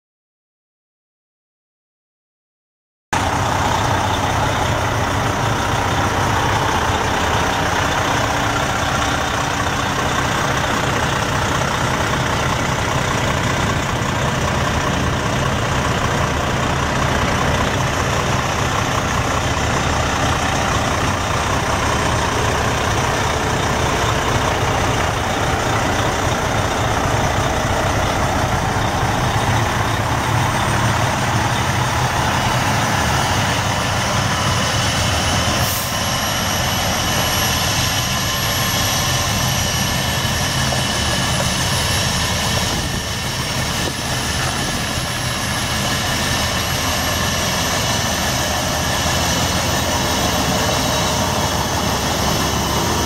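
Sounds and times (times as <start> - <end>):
diesel truck engine idling: 3.2 - 53.0.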